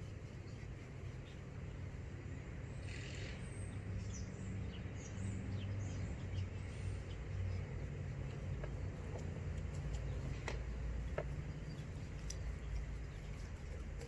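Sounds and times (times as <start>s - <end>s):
low background rumble: 0.0s - 14.0s
small birds chirping: 0.0s - 14.0s.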